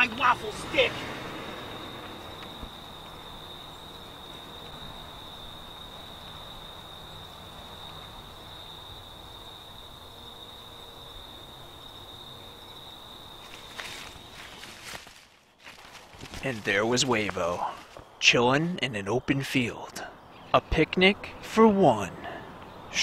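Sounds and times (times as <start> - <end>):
high-pitched insect chorus: 0.0 - 20.8
faint outdoor background noise: 0.0 - 23.0.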